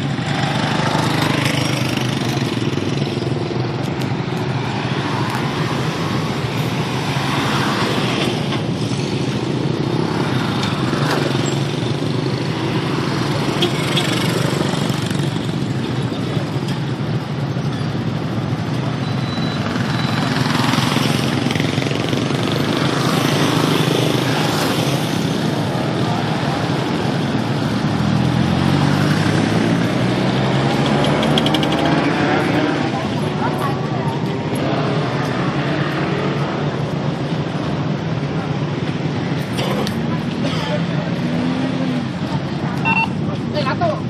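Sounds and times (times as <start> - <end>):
motorcycles and cars passing: 0.0 - 44.0.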